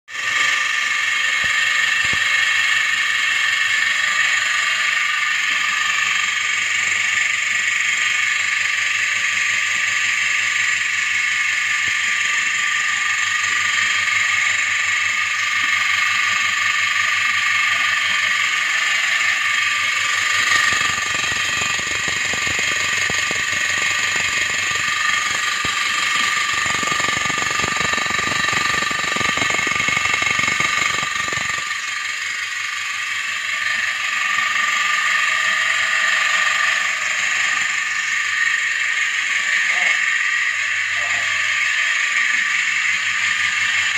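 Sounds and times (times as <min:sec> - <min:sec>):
vacuum pump whining and rattling: 0:00.1 - 0:43.9.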